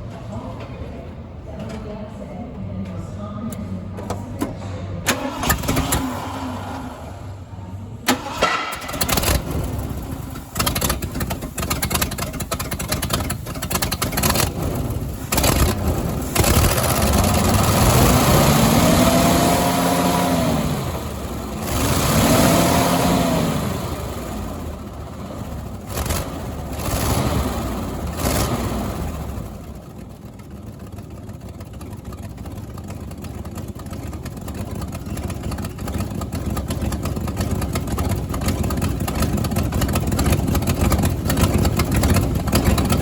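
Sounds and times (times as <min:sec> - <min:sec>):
car engine starting and revving: 0:05.1 - 0:30.8, 0:32.4 - 0:43.0.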